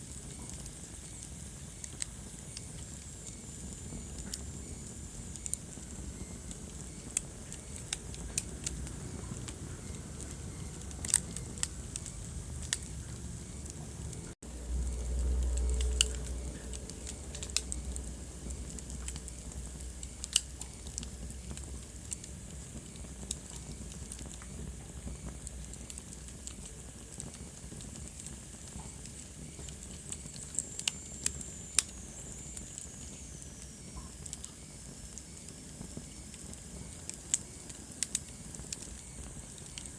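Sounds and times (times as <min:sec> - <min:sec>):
fire flames rumbling: 0:00.0 - 0:39.9
wood fire crackling and popping: 0:00.0 - 0:39.9.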